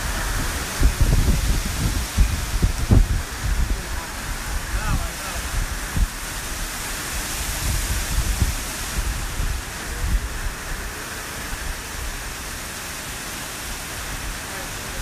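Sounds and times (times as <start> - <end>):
wind and rain rushing: 0.0 - 15.0
wind buffeting microphone: 0.0 - 15.0.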